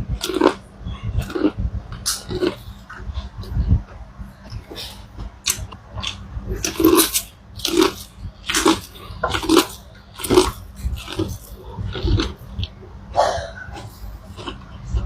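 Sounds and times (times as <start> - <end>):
person chewing corn: 0.2 - 0.6, 1.2 - 3.5, 4.5 - 15.0.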